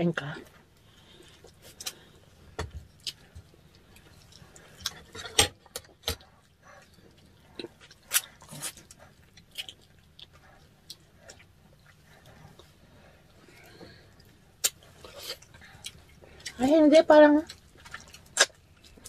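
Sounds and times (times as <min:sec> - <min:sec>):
wet chewing clicks and smacks: 0:01.2 - 0:16.7, 0:17.3 - 0:19.0.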